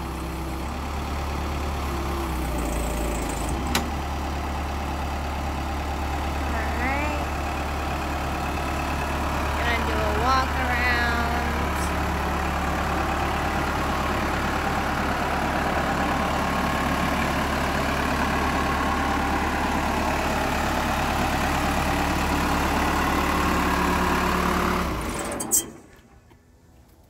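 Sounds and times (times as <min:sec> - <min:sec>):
diesel engine idling: 0:00.0 - 0:26.6.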